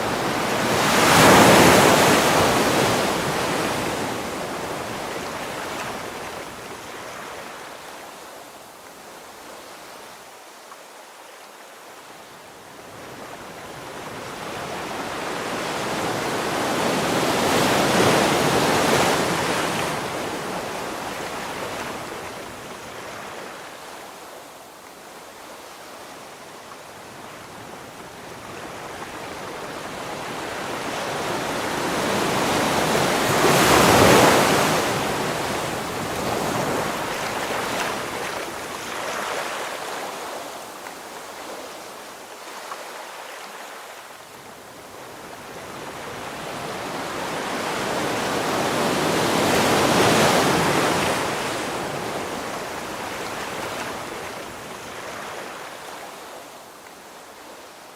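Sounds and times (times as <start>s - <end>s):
ocean waves breaking on shore: 0.0s - 10.4s, 12.6s - 57.9s.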